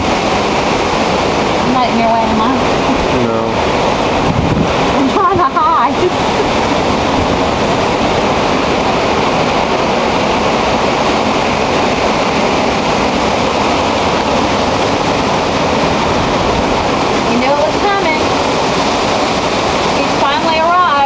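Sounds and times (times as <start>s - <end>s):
wind buffeting microphone: 0.0s - 21.0s
wind gusting through trees: 0.0s - 21.0s.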